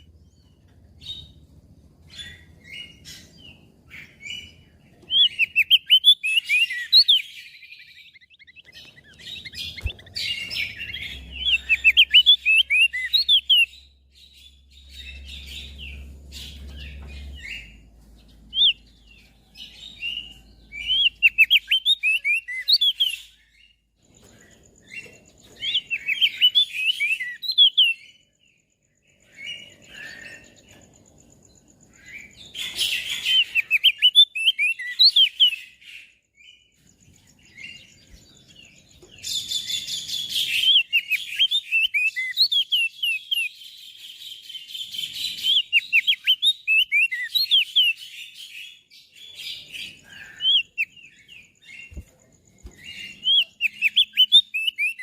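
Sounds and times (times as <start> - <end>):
bird singing sharp chirps: 0.0 - 55.0.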